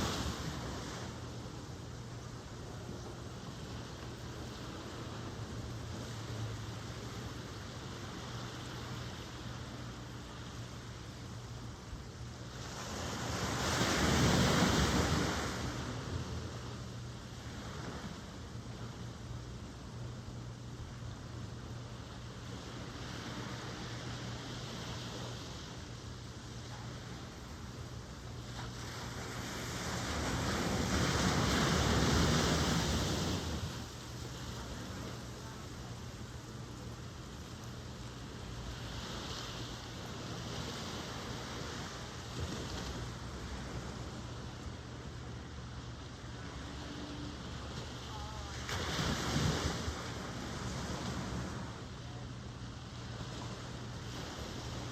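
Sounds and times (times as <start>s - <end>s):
ocean waves washing: 0.0s - 54.9s.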